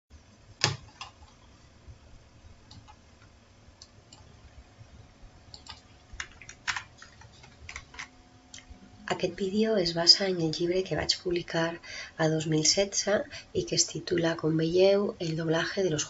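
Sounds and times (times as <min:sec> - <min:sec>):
faint steady hum: 0:00.1 - 0:16.0.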